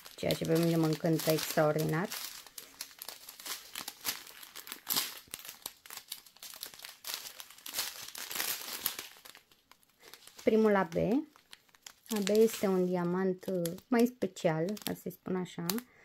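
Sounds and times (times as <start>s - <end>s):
plastic bags crinkling: 0.0s - 15.9s.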